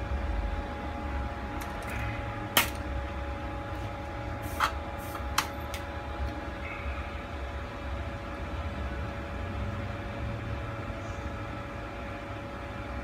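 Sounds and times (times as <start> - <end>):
faint whine: 0.0 - 13.0
low machine hum: 0.0 - 13.0.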